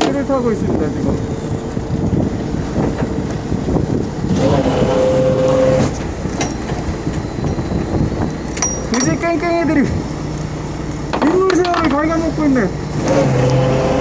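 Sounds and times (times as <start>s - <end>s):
boat engine rumbling: 0.0s - 14.0s
wind: 0.0s - 14.0s.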